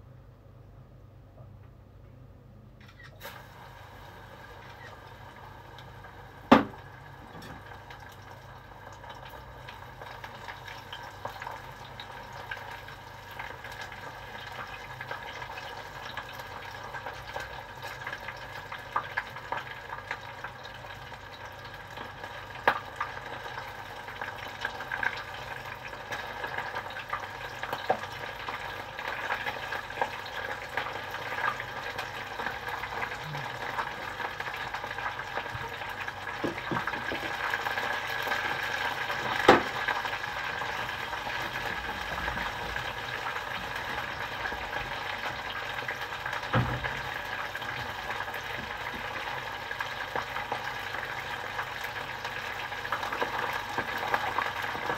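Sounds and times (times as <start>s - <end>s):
chicken deep-frying in oil: 2.8s - 54.9s.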